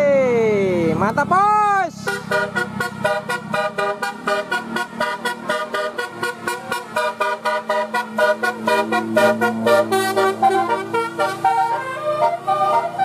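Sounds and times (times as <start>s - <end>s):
bus horn playing a tune: 1.9s - 13.0s.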